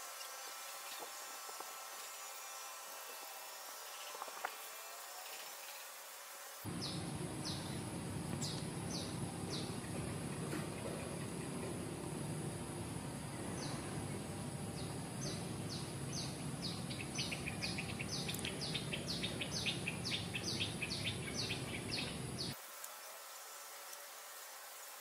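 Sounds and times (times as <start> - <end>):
high insect whine: 0.0 - 25.0.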